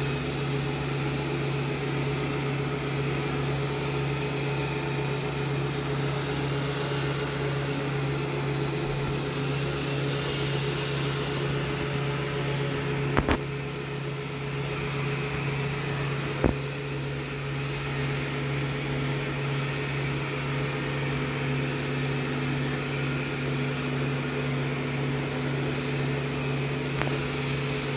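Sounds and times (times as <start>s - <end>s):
robot vacuum motor hum: 0.0s - 27.9s.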